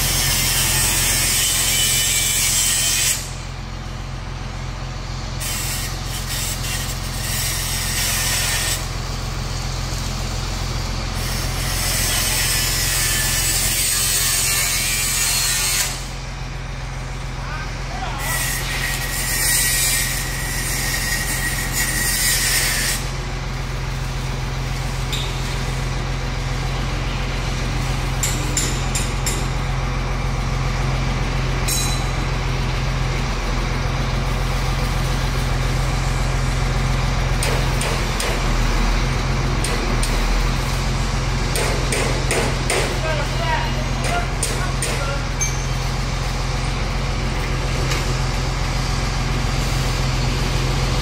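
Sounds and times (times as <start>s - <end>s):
diesel truck engine running: 3.2s - 13.8s, 15.9s - 18.3s, 23.0s - 51.0s.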